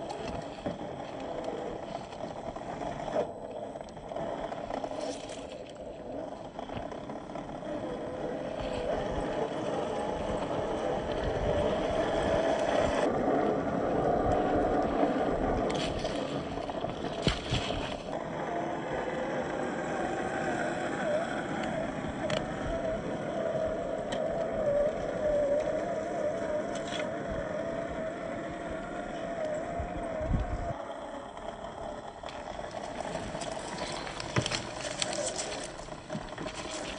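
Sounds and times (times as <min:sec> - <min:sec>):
electric motor and gear whine: 0:00.0 - 0:36.9.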